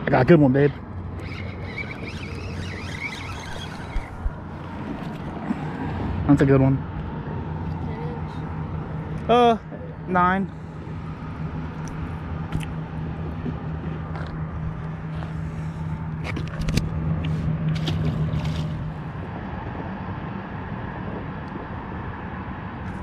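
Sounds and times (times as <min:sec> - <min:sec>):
road traffic rumble: 0:00.0 - 0:23.0
low hum: 0:00.8 - 0:23.0.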